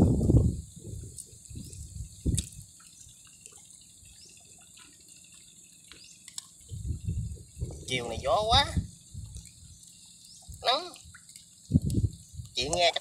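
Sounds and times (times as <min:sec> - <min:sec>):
water dripping off a net: 0:01.0 - 0:07.6, 0:08.9 - 0:13.0.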